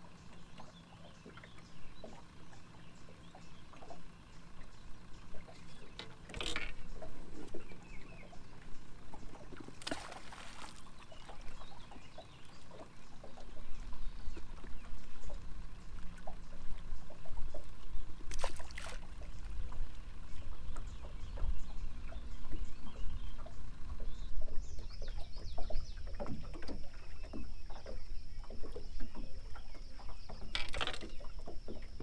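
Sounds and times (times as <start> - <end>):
boat engine low rumble: 0.0 - 32.0
light water sounds: 0.0 - 32.0.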